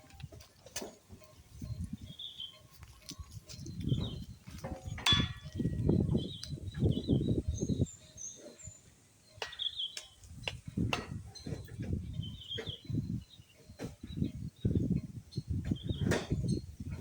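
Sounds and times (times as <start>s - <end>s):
birds chirping: 0.0s - 17.0s
wind buffeting microphone: 0.0s - 17.0s.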